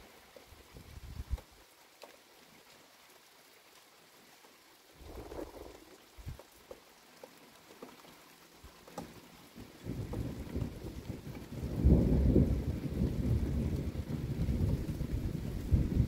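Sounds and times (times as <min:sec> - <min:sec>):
light rain falling: 0:00.0 - 0:16.0
raindrop clicks: 0:00.2 - 0:02.8, 0:03.7 - 0:16.0.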